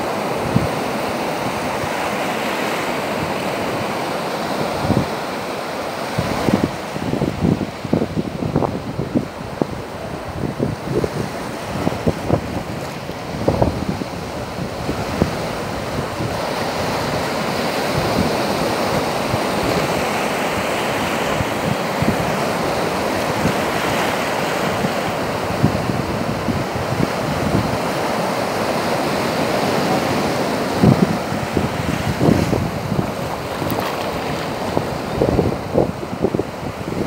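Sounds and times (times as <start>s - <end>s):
wind buffeting microphone: 0.0s - 2.2s, 3.0s - 5.4s, 6.0s - 37.0s
small waves breaking on sand: 0.0s - 37.0s.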